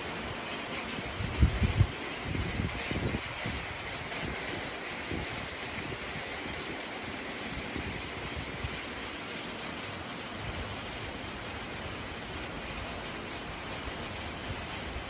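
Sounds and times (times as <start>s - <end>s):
heavy rain pouring: 0.0s - 15.0s
wind buffeting microphone: 0.2s - 9.2s, 10.3s - 15.0s.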